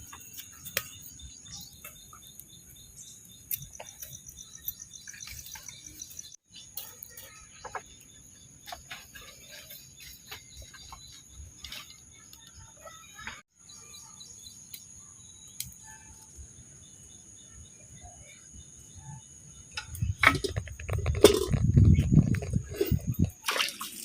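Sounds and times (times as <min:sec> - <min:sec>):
small birds chirping: 0:00.0 - 0:23.4.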